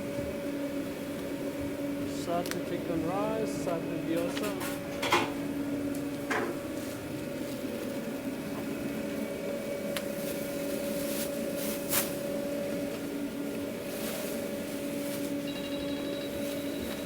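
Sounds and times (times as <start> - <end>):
mechanical hum of kitchen equipment: 0.0 - 17.0.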